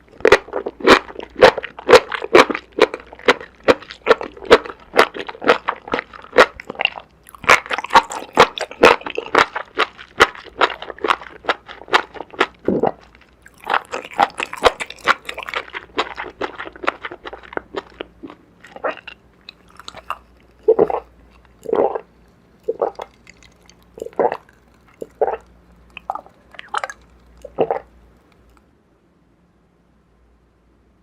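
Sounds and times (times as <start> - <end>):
chewing and crunching food: 0.0 - 28.7.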